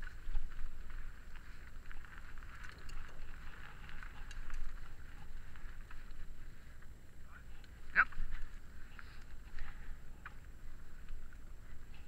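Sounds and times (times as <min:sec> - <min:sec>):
bike clicks and rattles: 0:00.0 - 0:12.0
bike tyres crunching over stones: 0:00.0 - 0:12.0.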